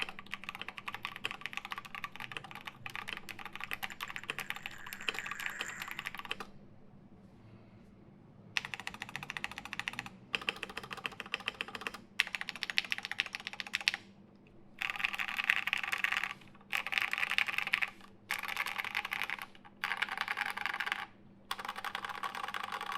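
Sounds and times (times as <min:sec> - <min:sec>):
mechanical keyboard typing: 0:00.0 - 0:06.5, 0:08.6 - 0:14.1, 0:14.8 - 0:22.9.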